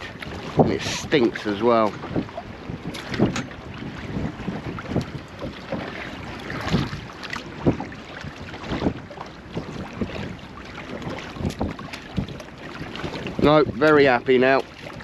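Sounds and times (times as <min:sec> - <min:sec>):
waves slapping boat hull: 0:00.0 - 0:15.0
wind buffeting microphone: 0:00.0 - 0:15.0.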